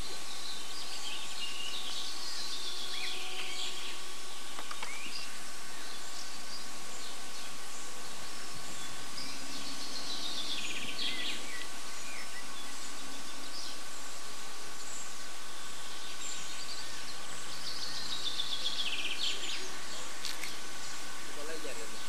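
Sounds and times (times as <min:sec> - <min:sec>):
songbird chirping and trilling: 0:00.0 - 0:22.0
steady background hiss: 0:00.0 - 0:22.0.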